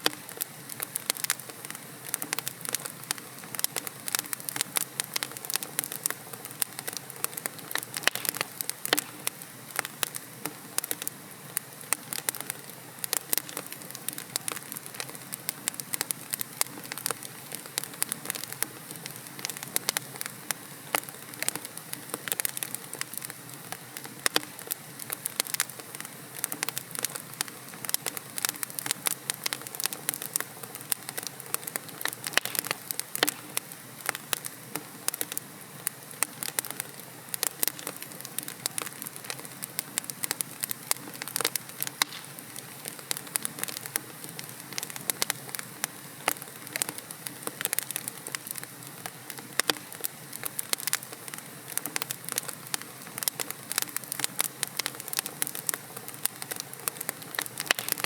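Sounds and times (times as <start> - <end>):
logs crackling and popping: 0.0 - 58.0
low hiss of flame: 0.0 - 58.0.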